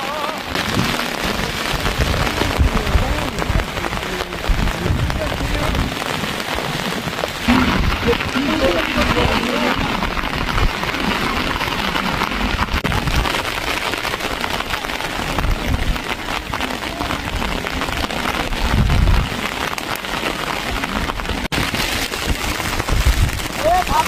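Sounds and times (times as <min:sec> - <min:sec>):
low rumbles: 0:00.0 - 0:24.0
rain pattering on surfaces: 0:00.0 - 0:24.0.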